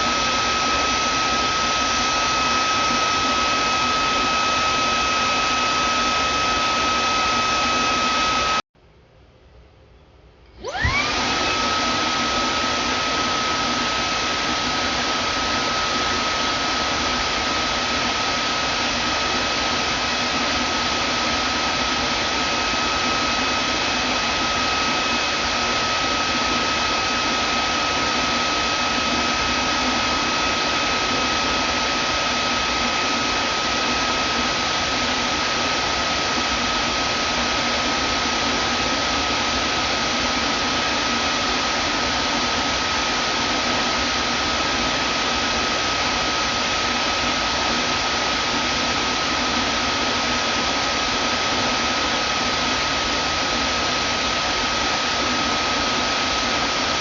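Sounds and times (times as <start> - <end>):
vacuum cleaner motor whine: 0.0 - 8.6, 10.6 - 57.0.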